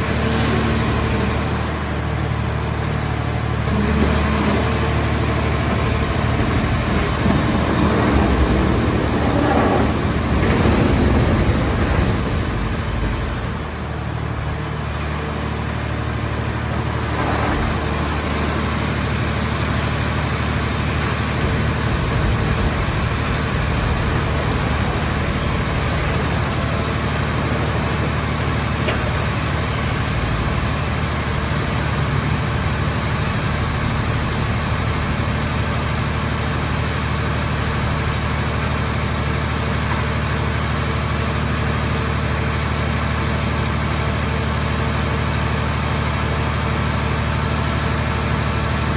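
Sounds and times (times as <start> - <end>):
hydraulic power unit humming: 0.0 - 48.9.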